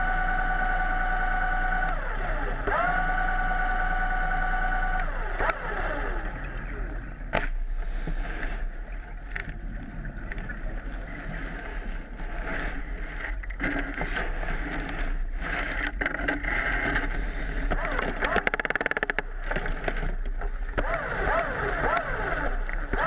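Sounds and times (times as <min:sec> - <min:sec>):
motor whine underwater: 0:00.0 - 0:23.0.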